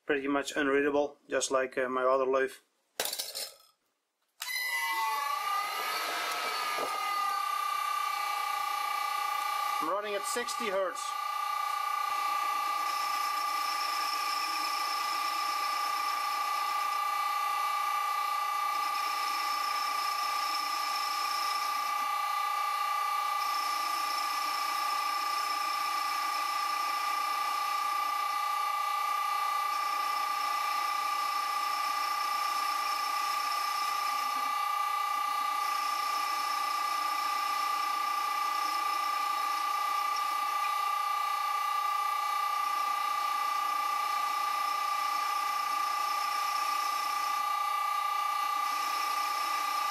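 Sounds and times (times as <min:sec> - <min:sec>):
lathe motor whining: 0:04.4 - 0:49.9.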